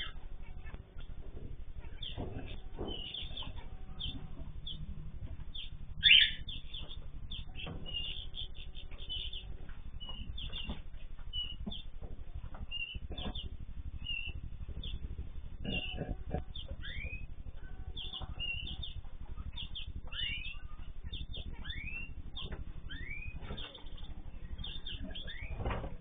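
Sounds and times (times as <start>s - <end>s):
birds chirping and calling: 0.0s - 26.0s
low steady hum: 0.0s - 26.0s.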